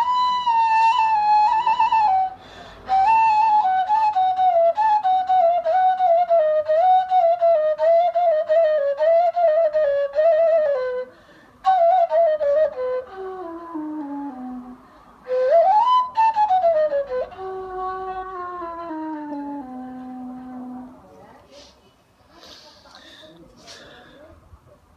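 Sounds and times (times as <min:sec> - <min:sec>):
reed flute melody: 0:00.0 - 0:21.1.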